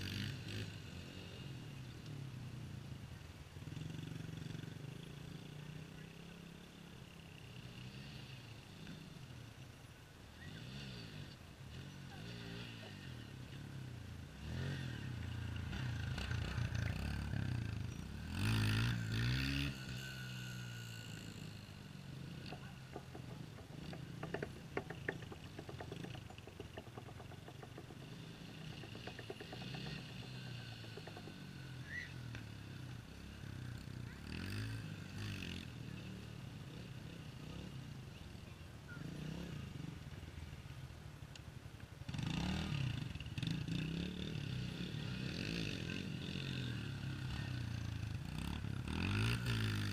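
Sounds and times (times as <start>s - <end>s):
distant dirt bike engines revving: 0.0s - 49.9s.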